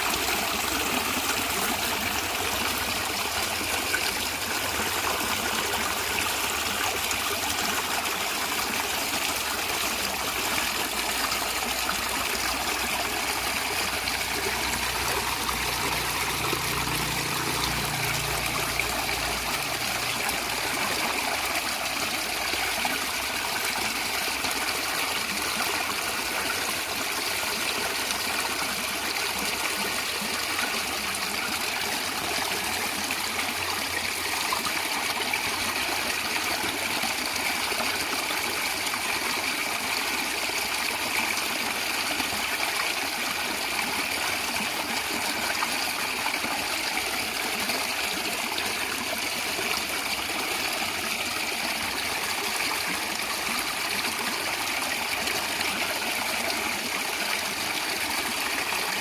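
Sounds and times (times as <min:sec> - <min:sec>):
stream gurgling over rocks: 0:00.0 - 0:59.0.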